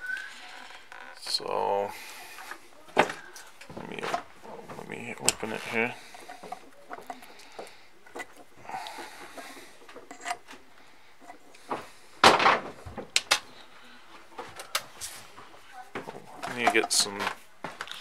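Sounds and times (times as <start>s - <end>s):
handling knocks and rubbing: 2.0s - 18.0s.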